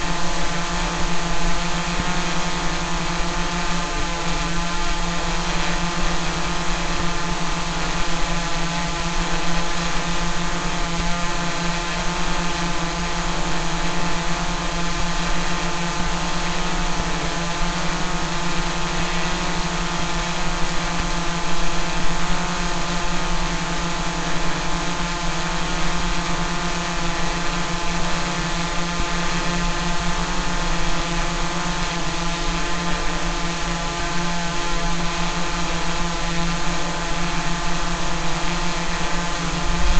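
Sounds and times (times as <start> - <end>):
drone buzzing: 0.0 - 39.9.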